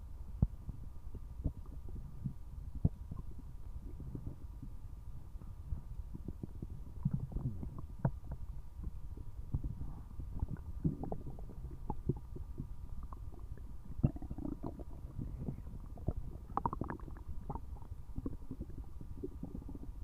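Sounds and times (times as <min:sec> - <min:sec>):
stomach rumbling and gurgling: 0:00.0 - 0:20.0.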